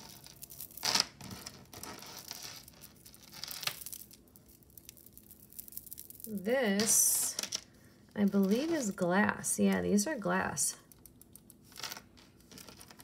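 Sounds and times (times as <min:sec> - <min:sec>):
jewelry rustling and crinkling: 0:00.0 - 0:10.1, 0:10.9 - 0:13.0.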